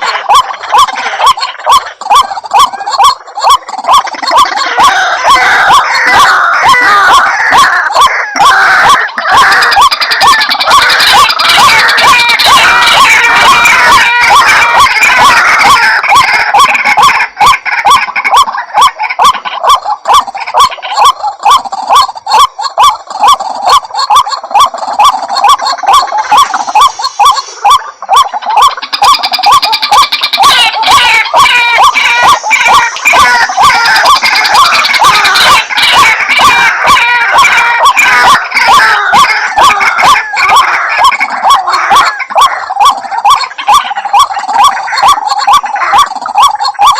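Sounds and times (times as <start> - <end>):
waterhen calling: 0.0 - 46.9.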